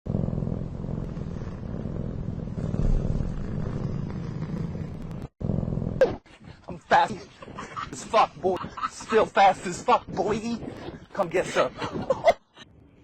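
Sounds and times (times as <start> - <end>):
cat purring: 0.1 - 12.2.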